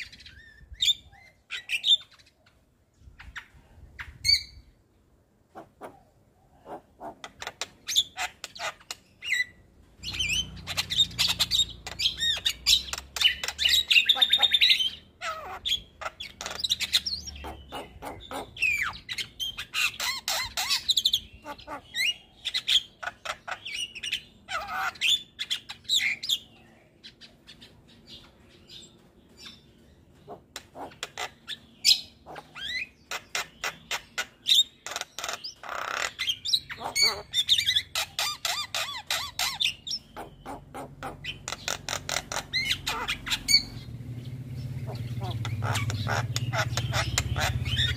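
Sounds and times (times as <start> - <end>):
bird singing and chattering: 0.0 - 4.7, 5.6 - 47.9.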